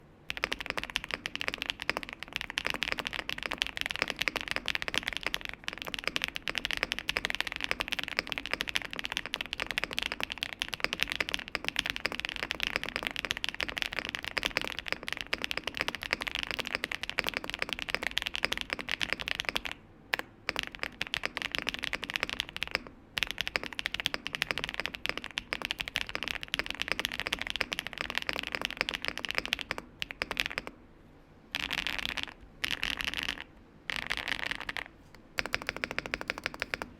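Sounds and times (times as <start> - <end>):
fast mechanical keyboard typing: 0.3 - 30.8, 31.5 - 36.9.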